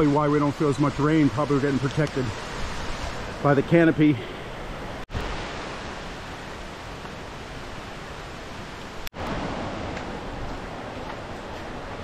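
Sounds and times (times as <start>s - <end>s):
rainforest rushing noise: 0.0s - 12.0s.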